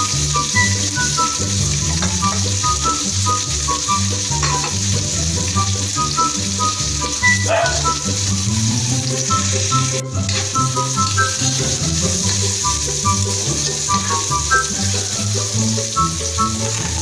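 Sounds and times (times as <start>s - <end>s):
background music with bass line: 0.0s - 17.0s
meat and onions sizzling in oil: 0.0s - 17.0s.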